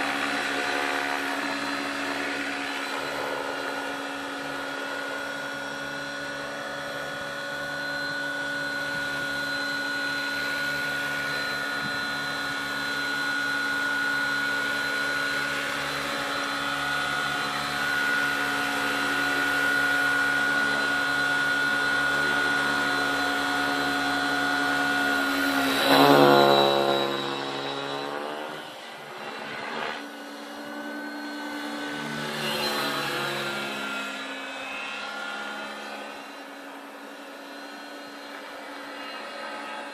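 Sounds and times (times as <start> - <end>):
rc helicopter motor and rotors: 0.0 - 39.9.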